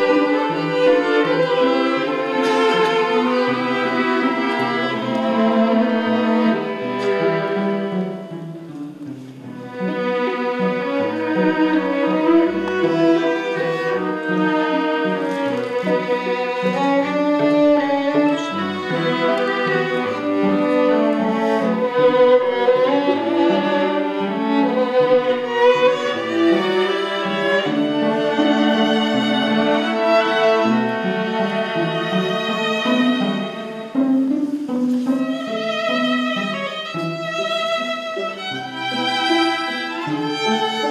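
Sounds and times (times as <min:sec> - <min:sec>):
cello: 0:00.0 - 0:40.9
violin melody: 0:00.0 - 0:40.9.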